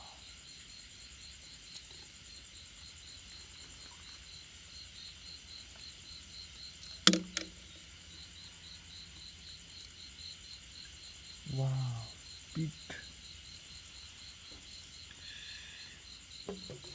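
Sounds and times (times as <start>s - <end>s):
insects chirping in pulses: 0.0s - 16.9s.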